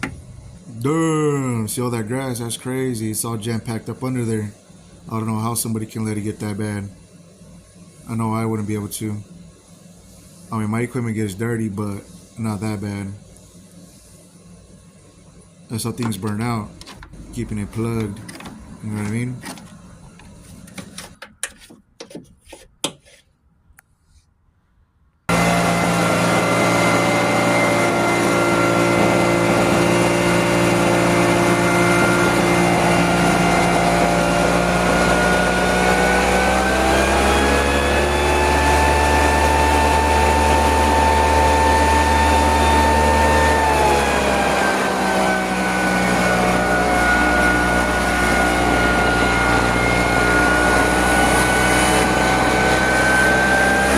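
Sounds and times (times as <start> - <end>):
motor-driven machine running: 0.0 - 21.1, 25.3 - 53.9.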